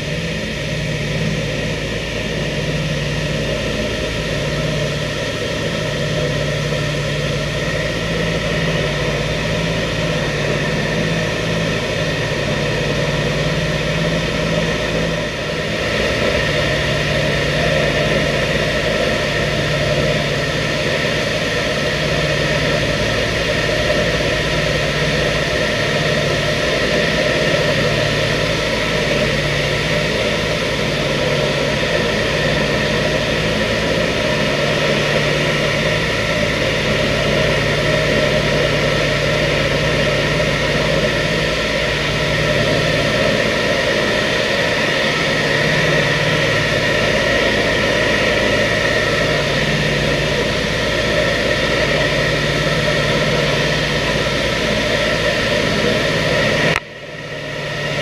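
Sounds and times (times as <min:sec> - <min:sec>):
propeller aircraft engines droning: 0:00.0 - 0:58.0.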